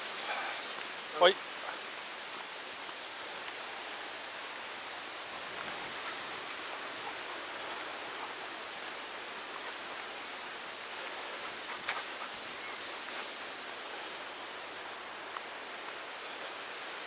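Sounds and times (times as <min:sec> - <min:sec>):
storm wind through trees: 0:00.0 - 0:17.0.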